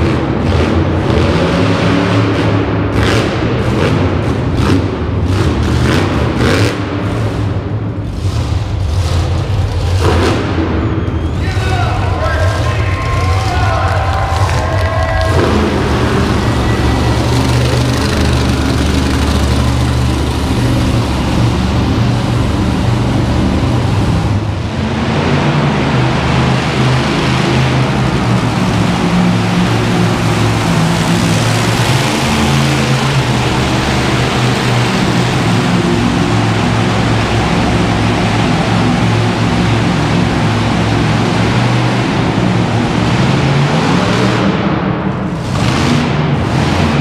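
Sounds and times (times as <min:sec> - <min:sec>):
monster truck engines: 0:00.0 - 0:47.0.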